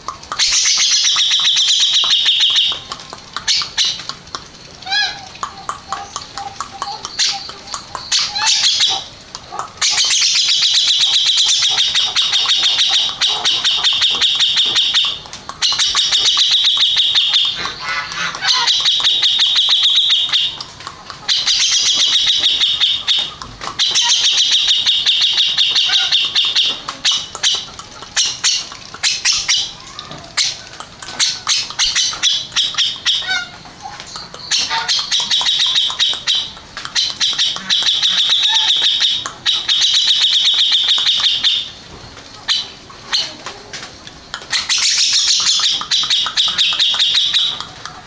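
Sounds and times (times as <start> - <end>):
bird singing rattling trills: 0.3 - 41.8, 44.3 - 48.0.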